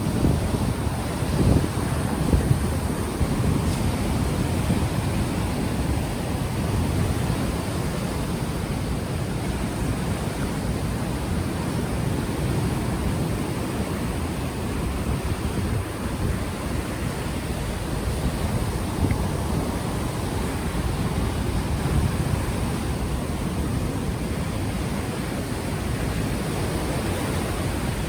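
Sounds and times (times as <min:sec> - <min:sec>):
ocean waves washing in: 0:00.0 - 0:28.0
wind buffeting microphone: 0:00.0 - 0:28.0.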